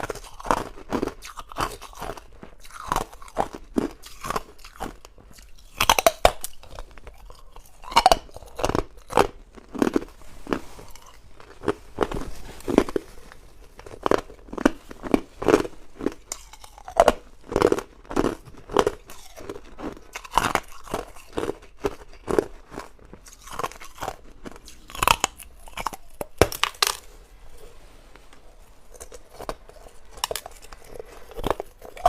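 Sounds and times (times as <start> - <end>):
ice being chewed: 0.0 - 32.0.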